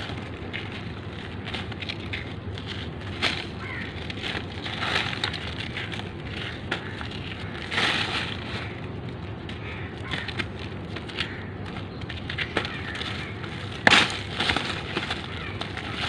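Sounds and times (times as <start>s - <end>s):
cement lumps crunching by hand: 0.0s - 16.0s.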